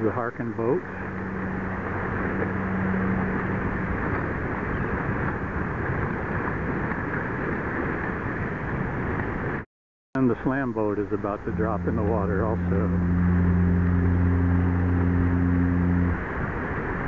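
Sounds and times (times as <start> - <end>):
low engine hum: 0.0 - 7.2, 10.2 - 17.0
wind noise on microphone: 0.0 - 9.6, 10.2 - 17.0.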